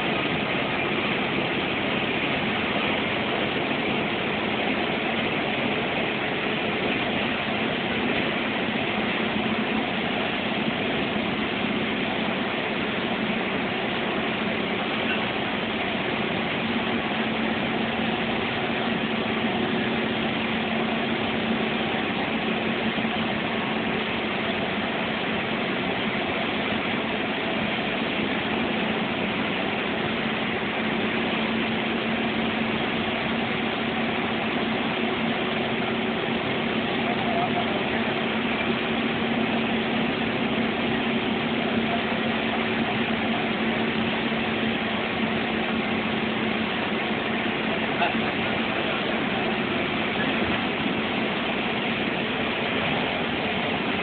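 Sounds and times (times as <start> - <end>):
engine and road noise in cab: 0.0 - 54.0
steady hum: 0.0 - 54.0.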